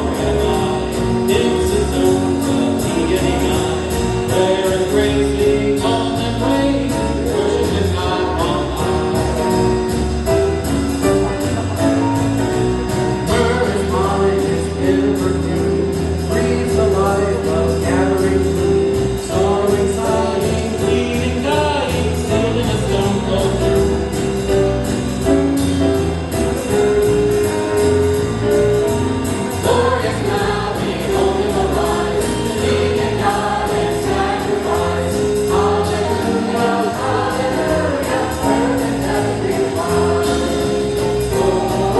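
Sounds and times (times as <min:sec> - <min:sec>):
bass line: 0:00.0 - 0:41.9
choir singing jazzy song: 0:00.0 - 0:41.9.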